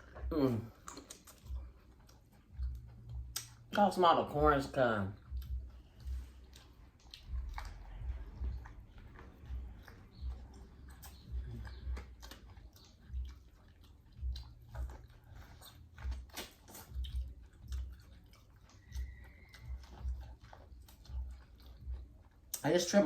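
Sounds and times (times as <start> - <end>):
wet mouth clicks: 0.0 - 3.8, 5.2 - 22.7
chewing corn on the cob: 0.0 - 23.0.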